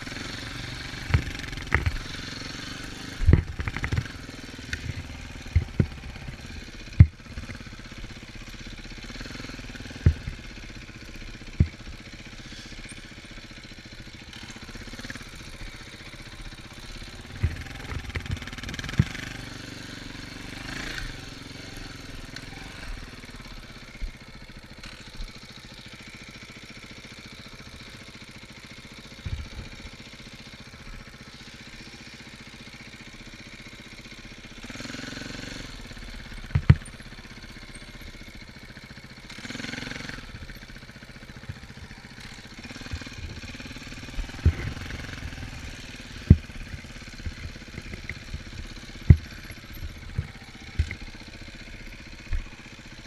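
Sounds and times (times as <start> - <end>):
dirt bike engine running: 0.0 - 53.0.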